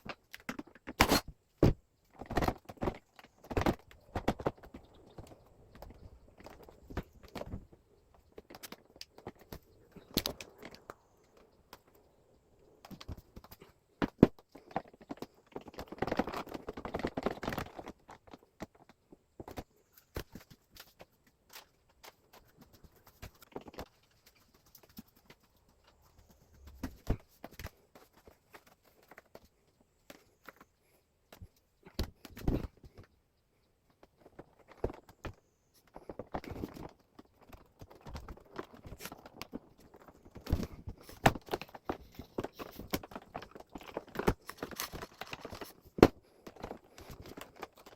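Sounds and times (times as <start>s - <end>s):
plastic parts clicking and knocking: 0.0s - 12.0s, 12.6s - 47.9s.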